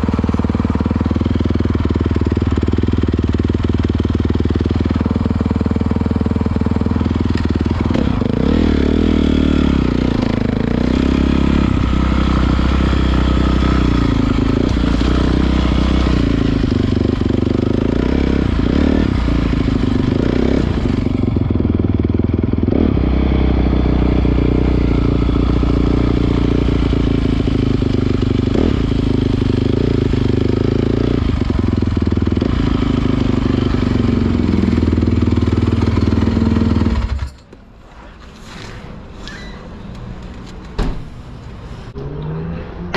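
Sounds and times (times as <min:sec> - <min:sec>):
dirt bike engine revving: 0:00.0 - 0:37.2, 0:42.0 - 0:42.9.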